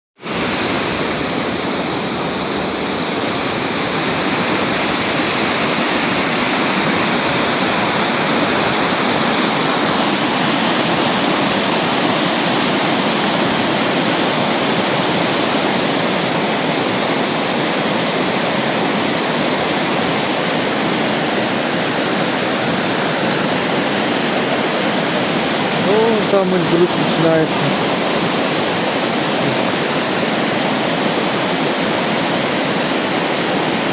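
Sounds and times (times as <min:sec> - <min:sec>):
water rushing: 0:00.2 - 0:33.9.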